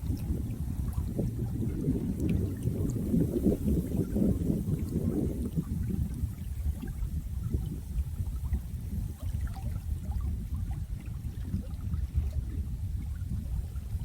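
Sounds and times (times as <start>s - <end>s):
running water rumble: 0.0s - 14.0s
water gurgles and drips: 0.0s - 14.0s.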